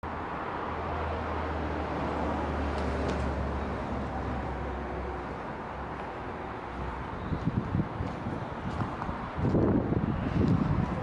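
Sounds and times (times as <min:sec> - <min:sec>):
vehicle noise rumble: 0:00.0 - 0:11.0.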